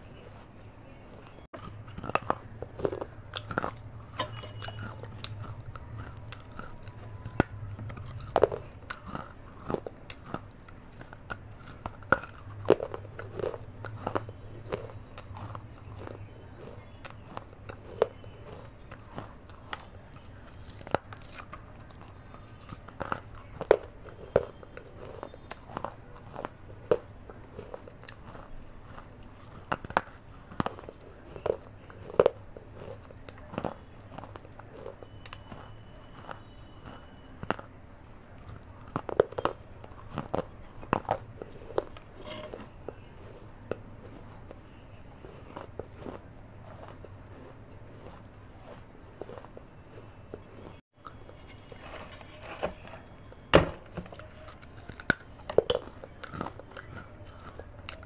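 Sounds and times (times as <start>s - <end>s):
soft grinding chews: 0.0s - 58.0s.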